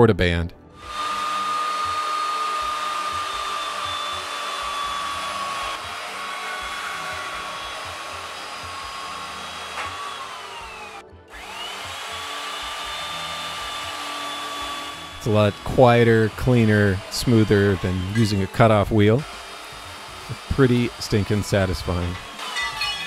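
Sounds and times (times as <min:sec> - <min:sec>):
band saw cutting metal tube: 0:00.8 - 0:23.0.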